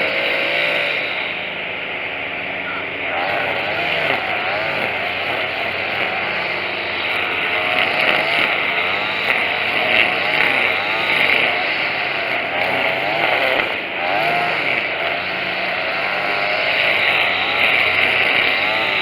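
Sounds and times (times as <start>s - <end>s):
string trimmer engine running: 0.0s - 19.0s.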